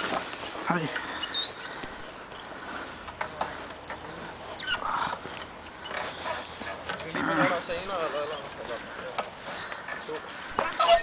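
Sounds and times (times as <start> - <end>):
small bird chirping: 0.0 - 2.6, 4.1 - 11.0.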